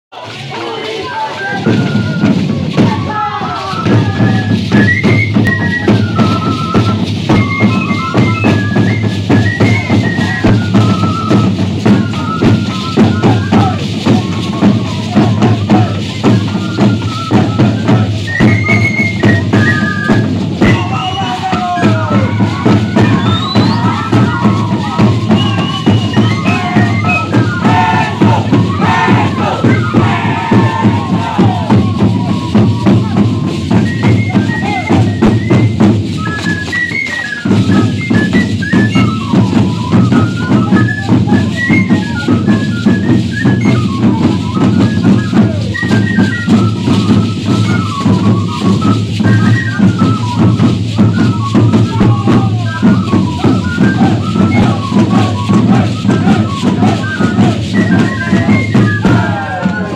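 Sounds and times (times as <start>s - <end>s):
steady drum beat: 1.4s - 36.2s, 37.4s - 59.9s.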